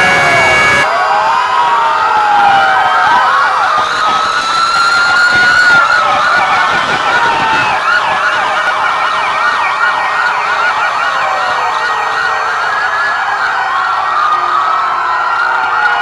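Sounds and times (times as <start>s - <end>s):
emergency sirens yelping and wailing: 0.0s - 16.0s.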